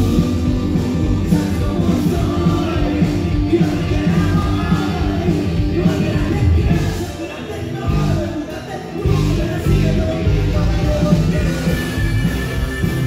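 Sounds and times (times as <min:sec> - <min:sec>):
man singing lead vocals: 0:00.0 - 0:13.0
rock band playing live: 0:00.0 - 0:13.0.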